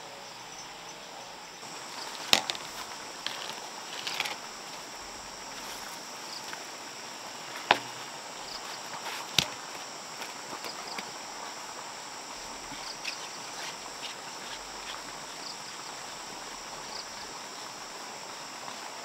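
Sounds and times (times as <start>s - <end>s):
high insect chirring: 0.2s - 19.0s.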